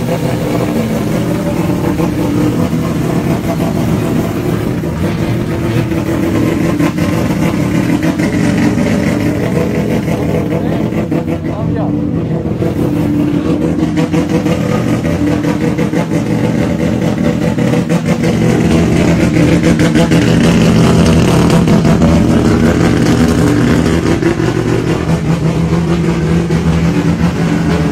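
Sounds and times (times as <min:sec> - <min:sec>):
rotary engine running: 0:00.0 - 0:27.9.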